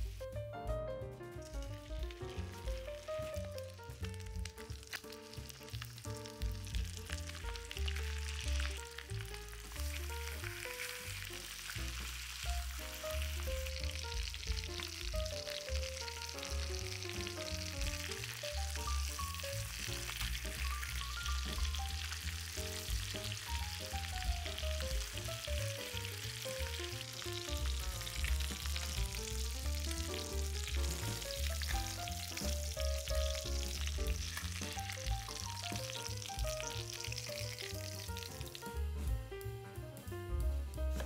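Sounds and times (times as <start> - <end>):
background music with bass line: 0.0 - 41.0
food frying in a pan: 1.3 - 39.2.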